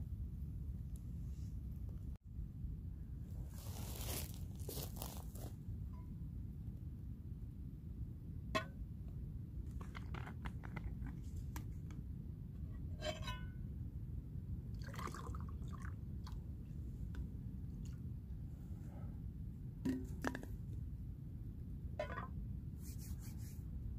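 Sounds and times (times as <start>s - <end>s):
steady low rumble: 0.0s - 10.0s, 10.7s - 23.9s.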